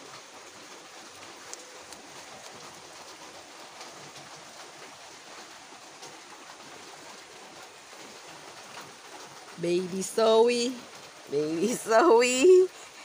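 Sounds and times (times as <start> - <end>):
rain hissing: 0.0 - 13.0
raindrops ticking: 0.0 - 13.0.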